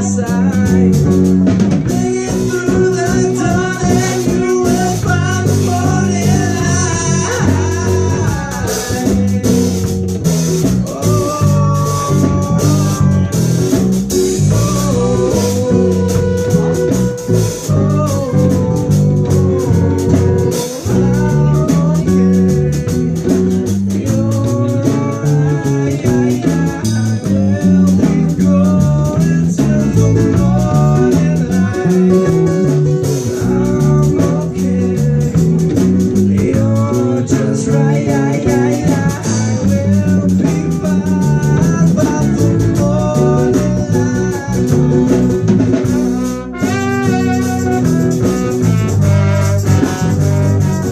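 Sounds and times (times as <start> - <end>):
bass line: 0.0 - 50.9
drums: 0.0 - 50.9
guitar: 0.0 - 50.9.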